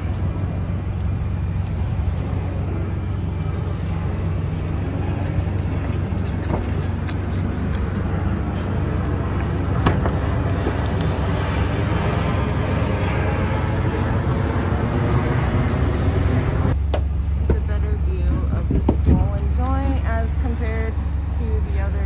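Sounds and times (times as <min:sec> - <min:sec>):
low rumble of vehicle noise: 0:00.0 - 0:22.0.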